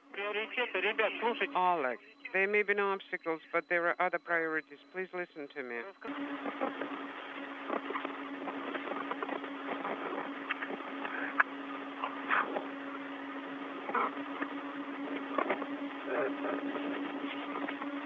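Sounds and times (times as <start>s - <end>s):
radio crackles: 0.0s - 3.6s, 4.2s - 18.0s
radio hum and hiss: 0.0s - 18.0s.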